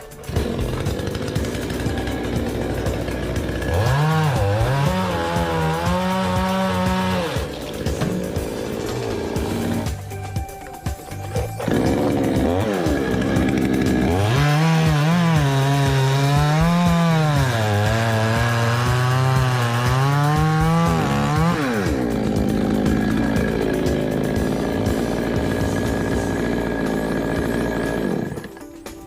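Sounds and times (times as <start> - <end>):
chainsaw revving: 0.0 - 10.2, 11.3 - 28.6.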